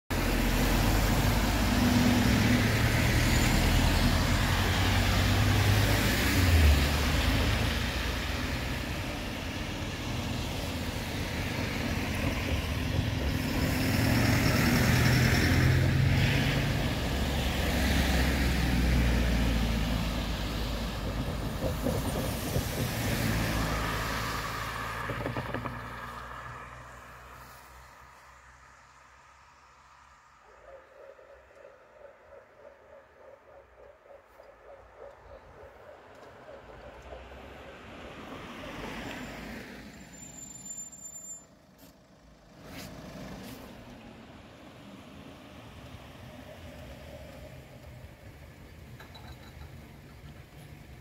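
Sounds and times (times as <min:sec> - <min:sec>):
cars driving on wet road: 0:00.1 - 0:30.4, 0:36.0 - 0:51.0.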